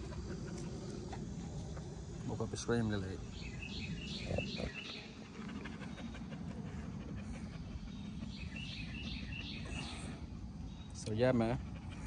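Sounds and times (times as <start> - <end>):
dog panting: 0.0 - 2.0, 3.9 - 12.0.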